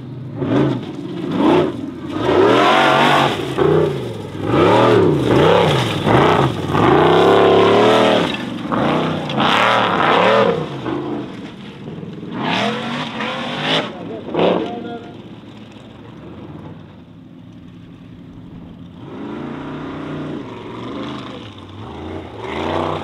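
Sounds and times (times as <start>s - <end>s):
buggy engine revving: 0.0s - 23.0s.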